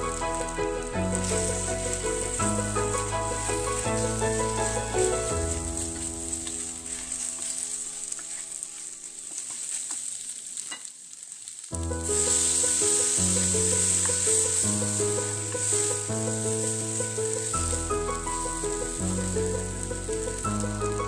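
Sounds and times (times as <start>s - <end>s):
background music: 0.0s - 8.6s, 11.8s - 21.0s
vegetables sizzling in hot oil: 0.0s - 21.0s.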